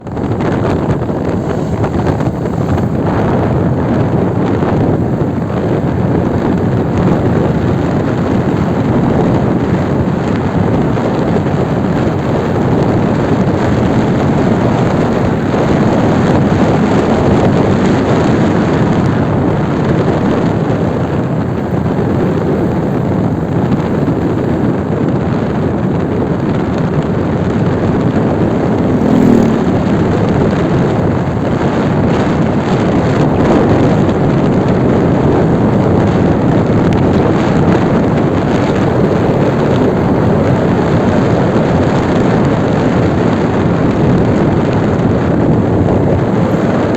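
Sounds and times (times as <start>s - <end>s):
moving vehicle on road: 0.0s - 46.9s
wind rushing on microphone: 0.0s - 46.9s.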